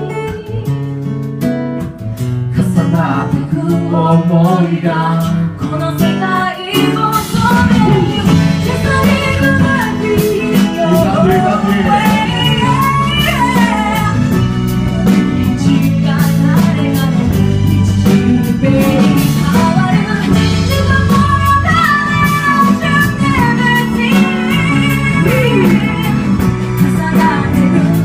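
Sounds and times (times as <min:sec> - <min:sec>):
pop-rock band playing live: 0:00.0 - 0:28.0
singing lead melody: 0:00.0 - 0:28.0
steady bass line: 0:00.0 - 0:28.0.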